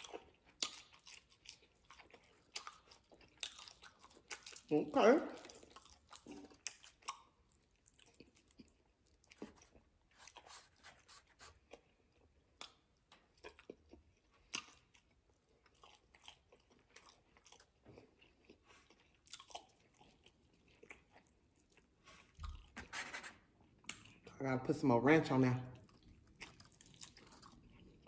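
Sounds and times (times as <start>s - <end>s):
chewing and biting chicken wings: 0.0s - 22.8s, 25.8s - 28.0s.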